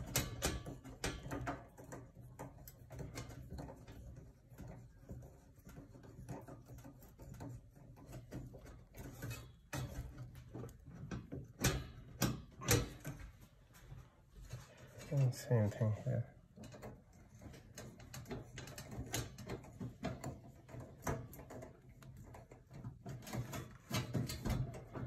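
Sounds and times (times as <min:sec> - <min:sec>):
screwdriver clicks and metallic knocks: 0:00.0 - 0:13.3, 0:16.6 - 0:25.0.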